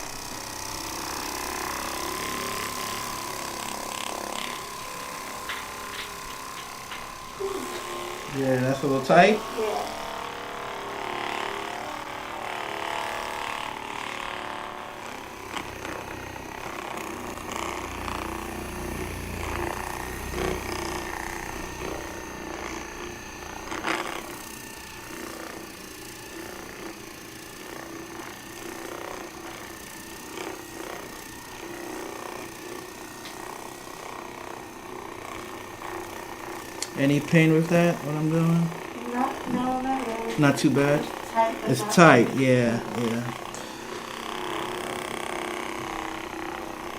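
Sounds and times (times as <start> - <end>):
massage gun buzzing: 0.0 - 46.9.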